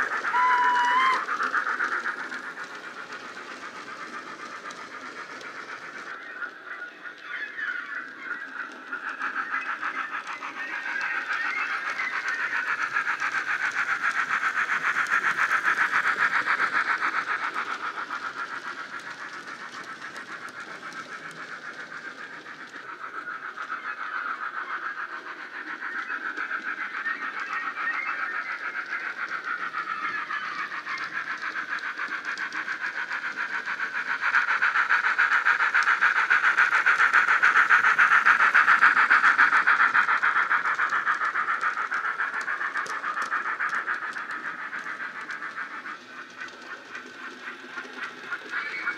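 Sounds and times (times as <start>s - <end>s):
model steam locomotive chuffing: 0.0s - 48.9s.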